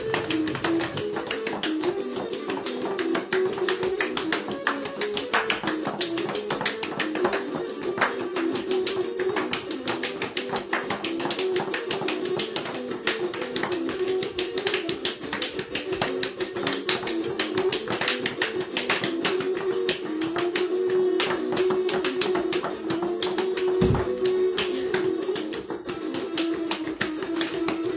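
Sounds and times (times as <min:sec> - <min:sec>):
fast dance music: 0:00.0 - 0:27.9.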